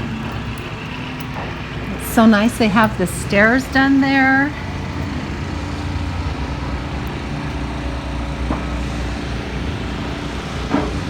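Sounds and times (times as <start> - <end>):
constant hum: 0.0 - 11.0
machinery rumbling: 0.0 - 11.0.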